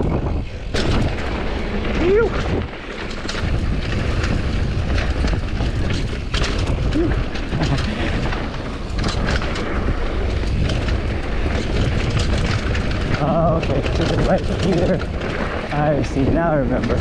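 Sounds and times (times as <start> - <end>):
mountain bike rattling over bumps: 0.0 - 17.0
wind buffeting microphone: 0.0 - 17.0.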